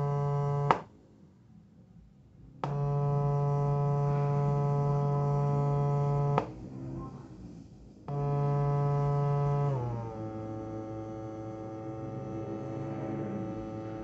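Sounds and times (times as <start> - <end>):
buzzy test tone from speaker: 0.0 - 0.9, 2.6 - 14.0.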